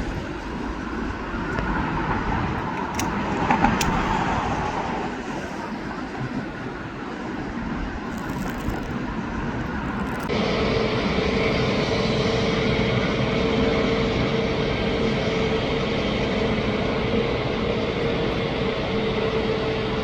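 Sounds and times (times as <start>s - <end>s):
jet engine roar with whine: 0.0s - 20.0s.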